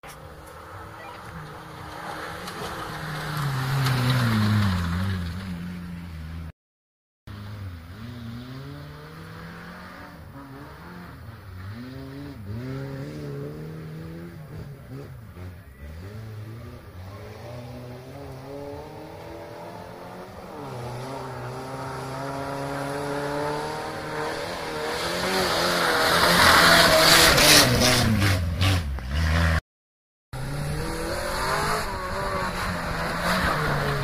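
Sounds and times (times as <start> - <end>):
off-road vehicle engine revving: 0.0 - 6.5, 7.3 - 29.6, 30.4 - 34.0.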